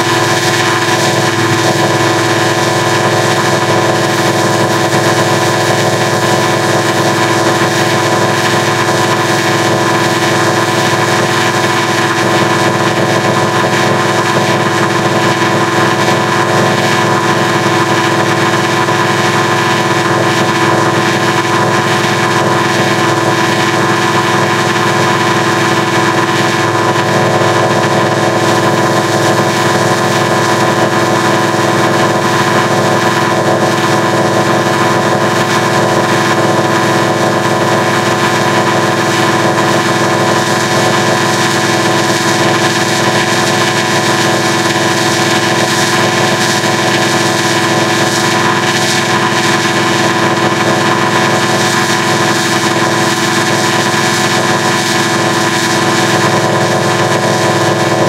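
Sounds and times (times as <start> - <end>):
distorted electronic drone: 0.0 - 58.0.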